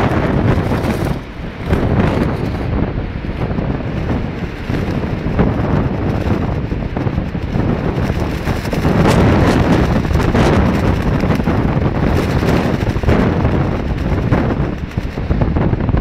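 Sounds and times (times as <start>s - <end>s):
plastic raincoat flapping and crackling: 0.0s - 16.0s
wind buffeting microphone: 0.0s - 16.0s.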